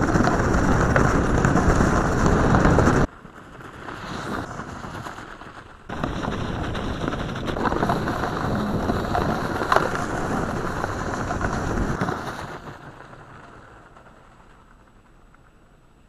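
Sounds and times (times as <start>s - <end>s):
wind on microphone: 0.0s - 13.1s
snow scooter track churning snow: 0.0s - 16.0s.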